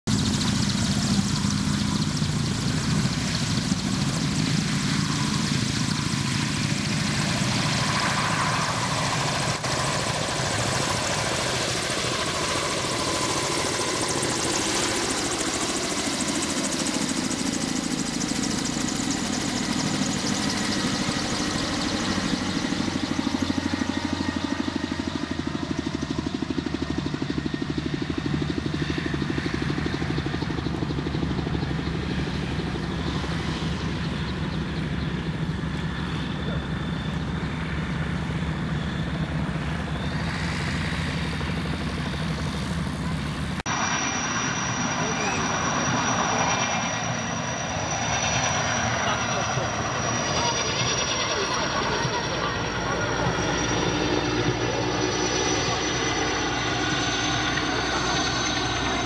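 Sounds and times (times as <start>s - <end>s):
helicopter rotor beat: 0.0s - 59.0s
turbine engine whine: 0.0s - 59.0s.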